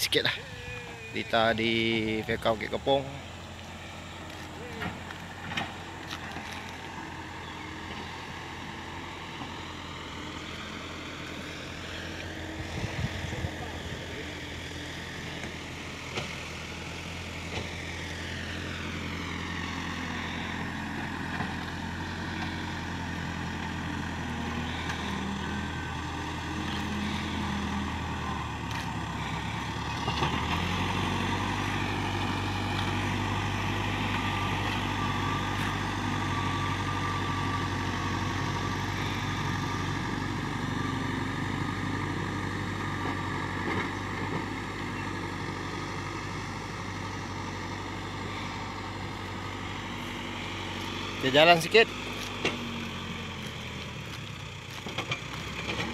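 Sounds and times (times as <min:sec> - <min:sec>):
backhoe diesel engine running: 0:00.0 - 0:55.9.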